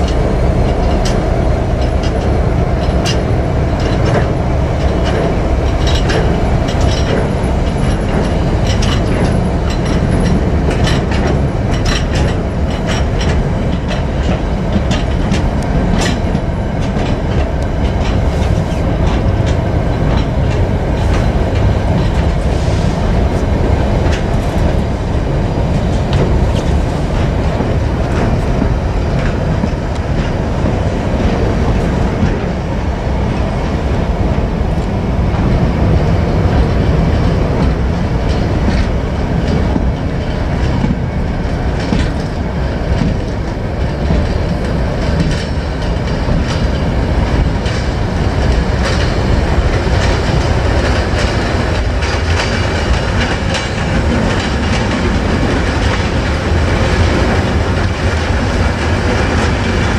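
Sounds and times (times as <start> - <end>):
freight train rumble: 0.0 - 59.9
wheels clattering over rail joints: 0.0 - 59.9.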